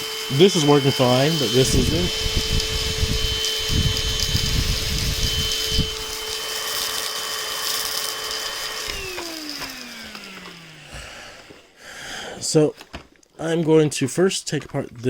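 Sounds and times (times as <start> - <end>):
stick vacuum motor whining: 0.0 - 13.1.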